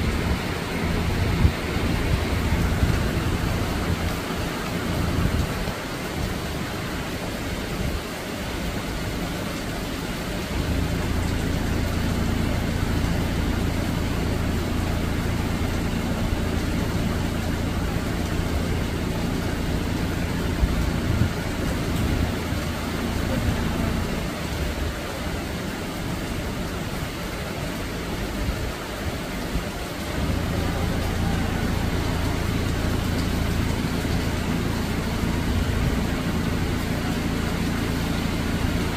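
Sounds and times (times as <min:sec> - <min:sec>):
low engine hum: 0:00.0 - 0:38.9
rain falling on leafy trees: 0:00.0 - 0:38.9.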